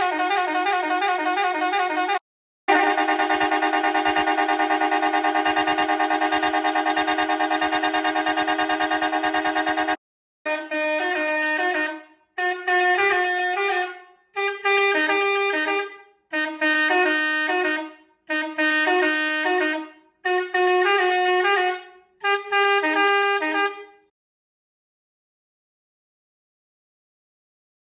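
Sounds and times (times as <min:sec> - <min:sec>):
melody air horn blasts: 0:00.0 - 0:24.1.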